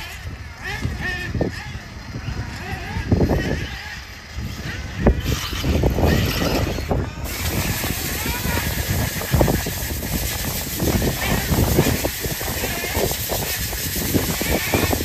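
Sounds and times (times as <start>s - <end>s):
rc car rumbling: 0.0s - 15.0s.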